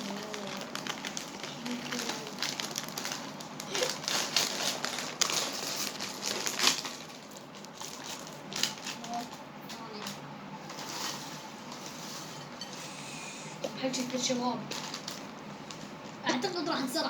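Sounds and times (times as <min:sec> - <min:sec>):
plastic packets crinkling: 0:00.0 - 0:12.3, 0:14.0 - 0:16.8.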